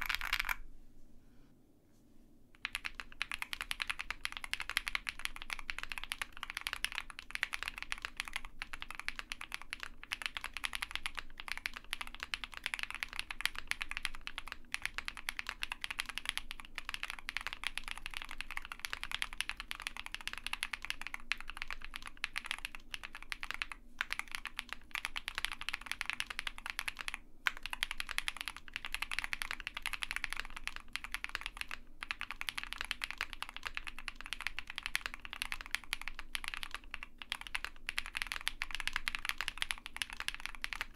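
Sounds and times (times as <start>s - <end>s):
fast typing on mechanical keyboard: 0.0s - 0.6s, 2.6s - 40.9s.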